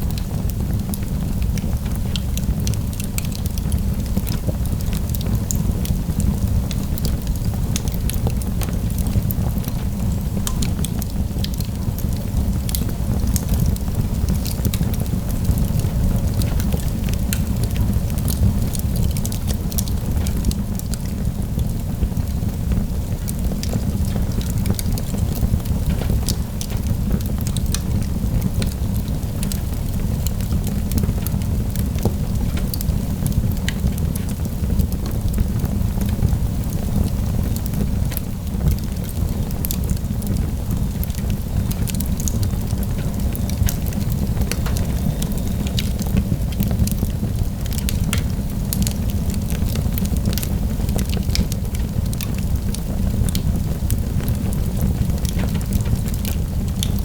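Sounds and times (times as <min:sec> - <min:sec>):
low fire rumble: 0:00.0 - 0:57.0
wood fire crackling: 0:00.0 - 0:57.0.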